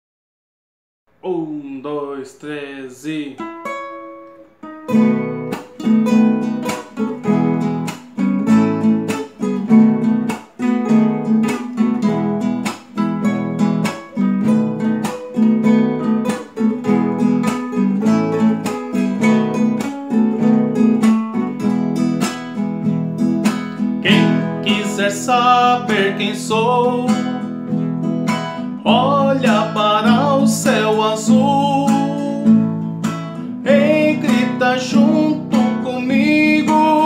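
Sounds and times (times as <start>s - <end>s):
classical guitar strumming: 2.3s - 37.0s.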